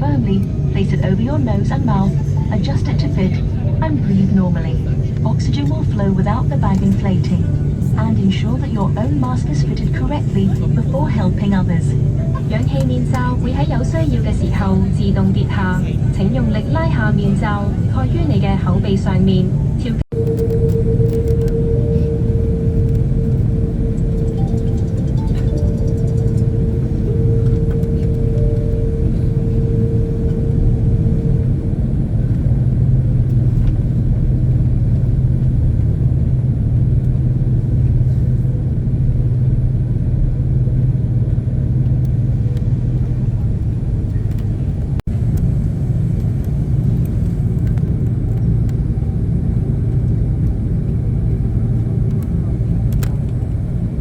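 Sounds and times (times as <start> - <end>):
aircraft engines rumbling in cabin: 0.0 - 54.0
steady hum: 0.0 - 54.0.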